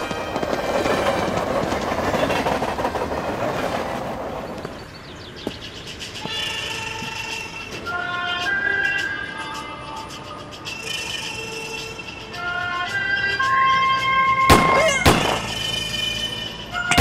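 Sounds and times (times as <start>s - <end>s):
train rumble from inside carriage: 0.0s - 17.0s.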